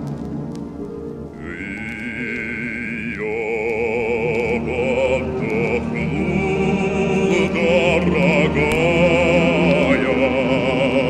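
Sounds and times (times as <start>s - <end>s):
man singing in deep bass: 1.3s - 11.0s.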